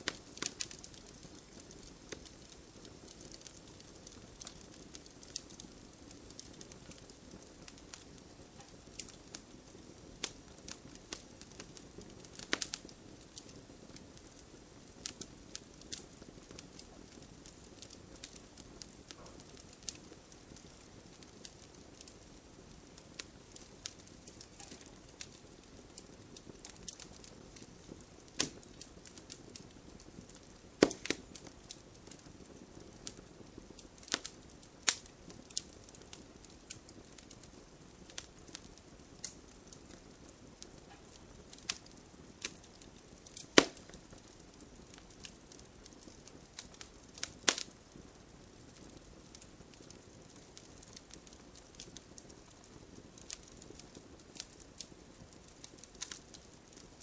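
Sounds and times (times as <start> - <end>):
bonfire crackling: 0.0 - 57.0.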